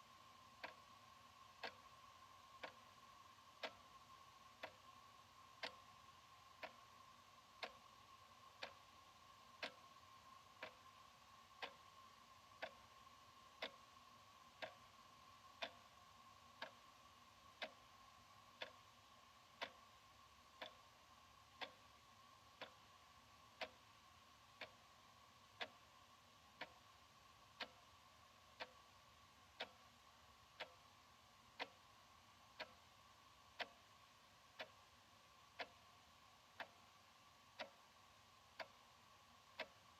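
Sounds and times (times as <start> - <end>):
faint steady hum: 0.0 - 39.9
wall clock ticking: 0.0 - 39.9.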